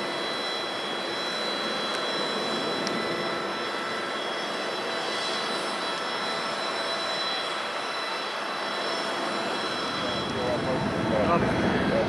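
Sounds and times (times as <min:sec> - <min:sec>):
jet turbine whine: 0:00.0 - 0:12.0.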